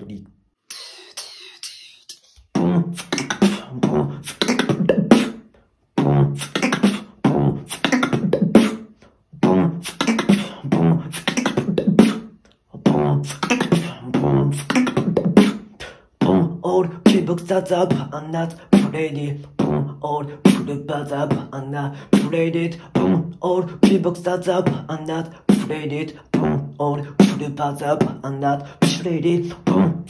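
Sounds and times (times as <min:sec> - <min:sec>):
beatboxing: 0:00.0 - 0:30.0.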